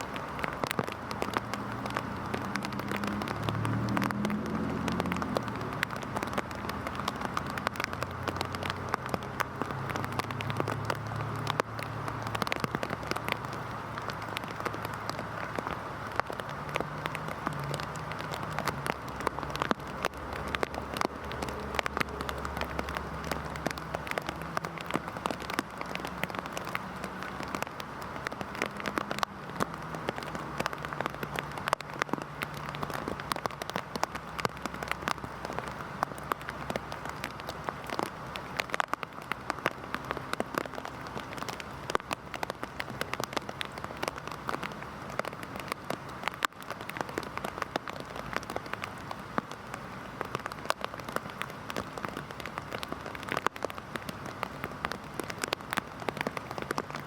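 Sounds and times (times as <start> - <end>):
heavy rain drops ticking: 0.0 - 57.0.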